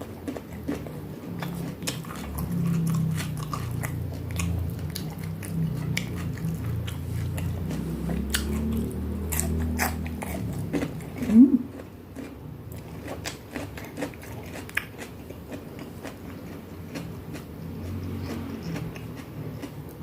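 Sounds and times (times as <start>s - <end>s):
chewing crunchy food: 0.0s - 20.0s.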